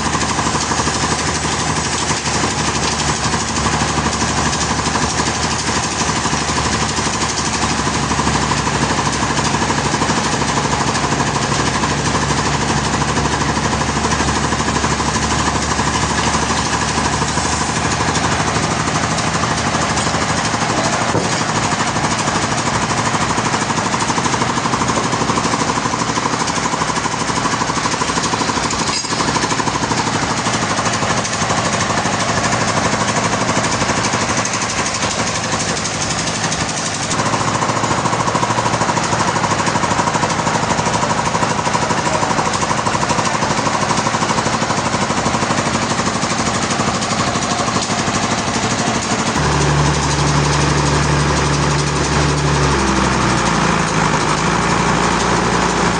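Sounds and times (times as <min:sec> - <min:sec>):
sawmill saw cutting log: 0:00.0 - 0:55.9.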